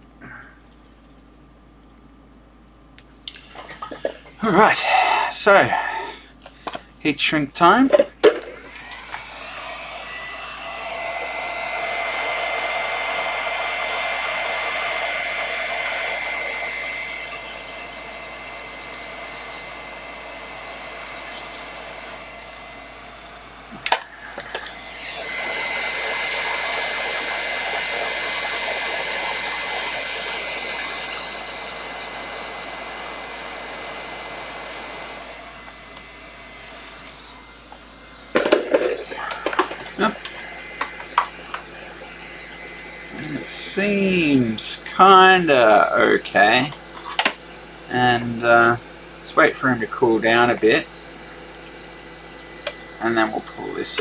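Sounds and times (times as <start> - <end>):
hot air tool blowing with whine: 3.4 - 6.6, 7.9 - 54.0.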